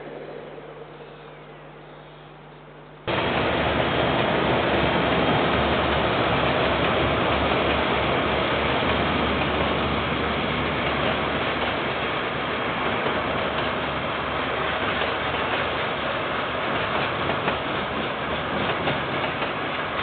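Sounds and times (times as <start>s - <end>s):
freight train rumbling past: 0.0s - 1.7s, 3.1s - 20.0s.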